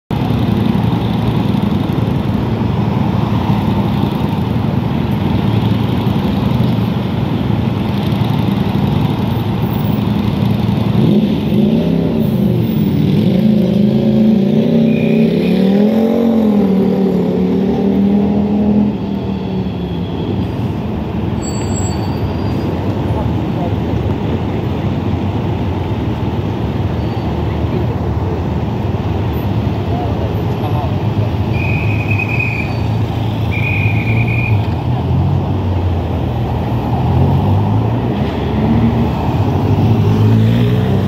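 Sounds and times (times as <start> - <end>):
vehicles driving past: 0.1 - 41.0.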